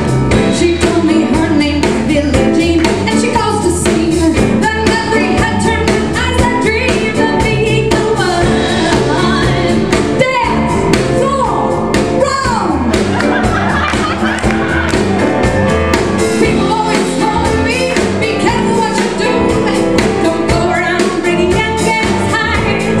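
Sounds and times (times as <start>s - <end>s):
live band playing: 0.0s - 23.0s
woman singing: 0.3s - 13.0s, 16.4s - 23.0s.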